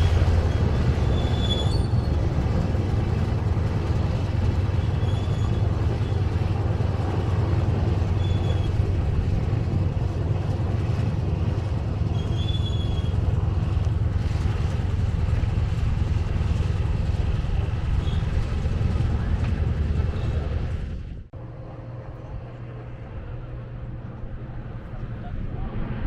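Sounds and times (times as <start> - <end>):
radial engine rumbling: 0.0 - 26.0.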